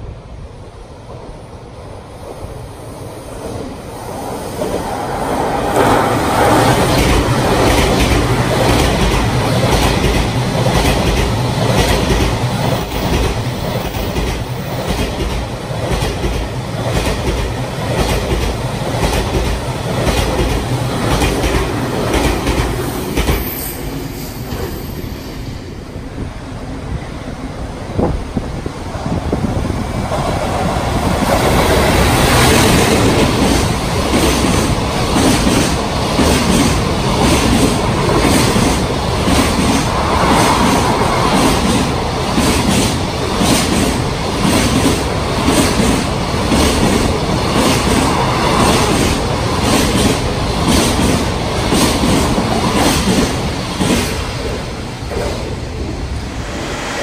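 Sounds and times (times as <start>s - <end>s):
freight train rumbling by: 0.0s - 57.0s.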